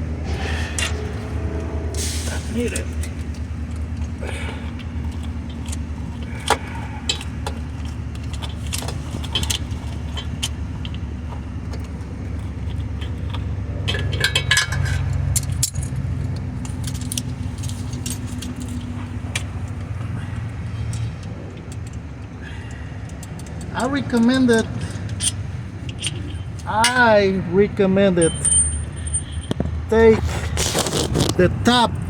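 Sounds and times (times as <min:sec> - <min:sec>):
hand tools clinking and rattling: 0:00.0 - 0:27.2, 0:28.2 - 0:31.3
steady low hum: 0:00.0 - 0:30.6.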